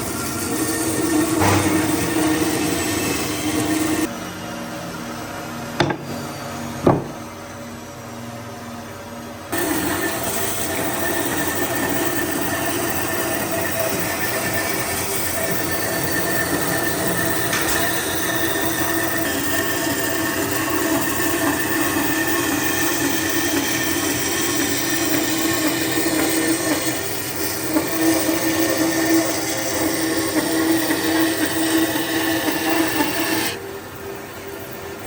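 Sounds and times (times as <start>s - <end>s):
power tool whining: 0.0s - 4.1s, 9.5s - 33.6s.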